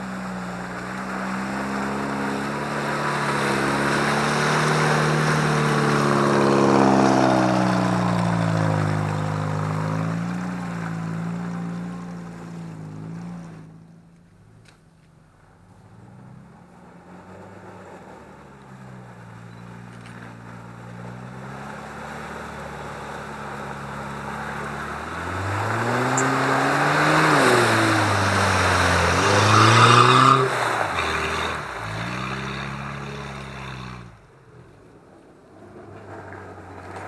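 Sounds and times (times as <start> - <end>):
off-road engine revving: 0.0 - 14.8, 15.4 - 34.9
wheels churning through mud: 0.0 - 37.0.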